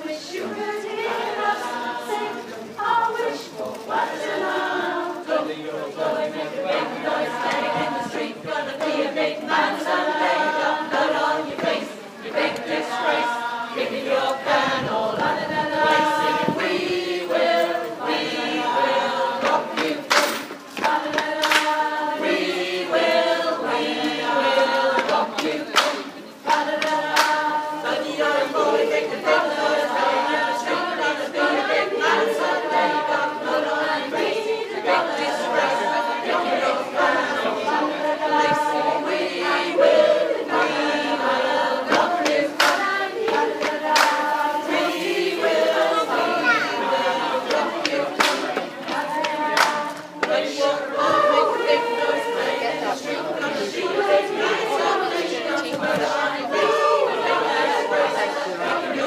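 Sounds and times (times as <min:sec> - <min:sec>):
choir singing unaccompanied: 0:00.0 - 0:59.0.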